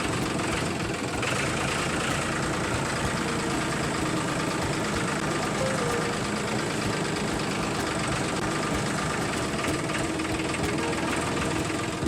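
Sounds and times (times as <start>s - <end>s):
small tractor engine idling: 0.0s - 12.0s.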